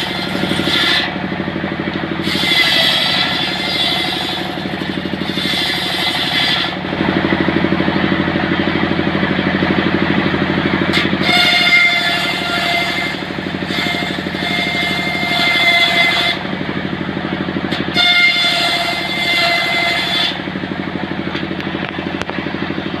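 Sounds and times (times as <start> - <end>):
engine running with pulsing beat: 0.0 - 23.0
saw blade whining through wood: 0.0 - 23.0.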